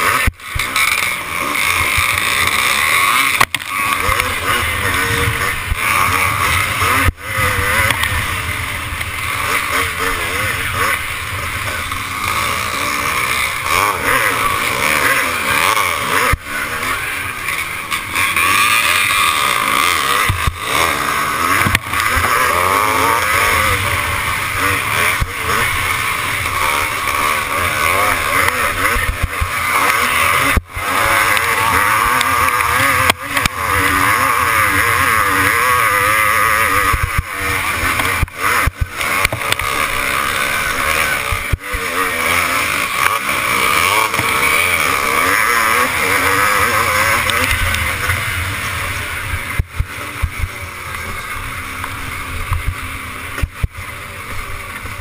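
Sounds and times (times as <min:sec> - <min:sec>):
heavy rush of noise: 0:00.0 - 0:35.9, 0:36.5 - 0:55.0
motocross bike engine revving: 0:00.0 - 0:55.0.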